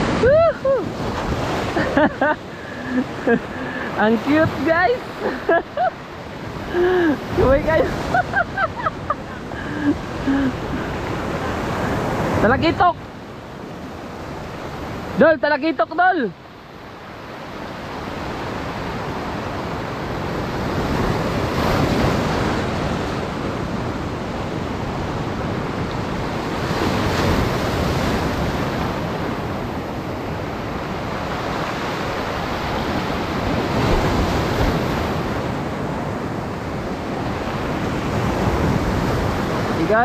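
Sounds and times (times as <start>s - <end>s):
heavy surf breaking on shore: 0.0s - 40.0s.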